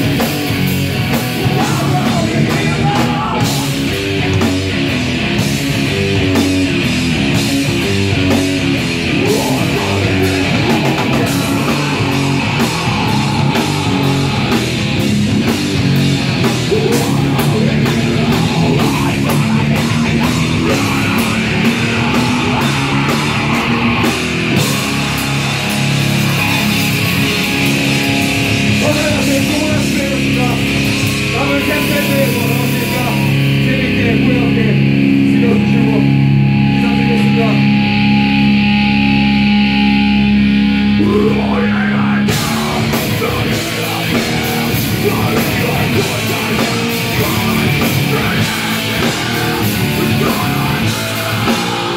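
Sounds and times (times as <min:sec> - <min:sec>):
drums with cymbals: 0:00.0 - 0:33.6, 0:42.3 - 0:51.9
shouted lead vocal: 0:00.0 - 0:38.1, 0:40.7 - 0:51.9
distorted electric guitars: 0:00.0 - 0:51.9.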